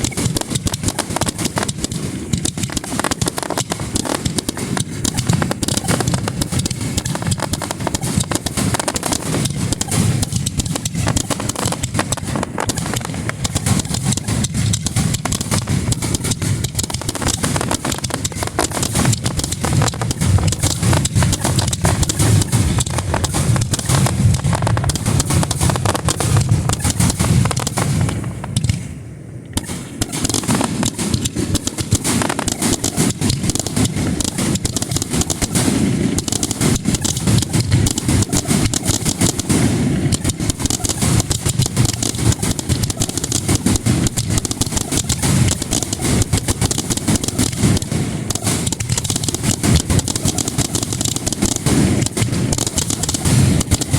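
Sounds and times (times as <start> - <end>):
fireworks launches and bursts: 0.0 - 53.9.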